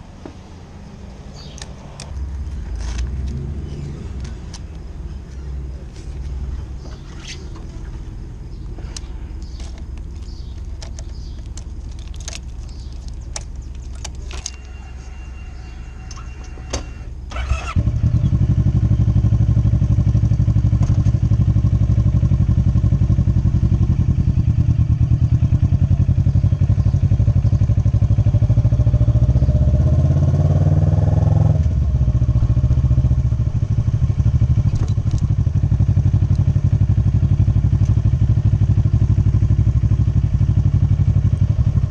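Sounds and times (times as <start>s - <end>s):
motorcycle engine revving: 1.3s - 14.9s, 15.5s - 41.9s.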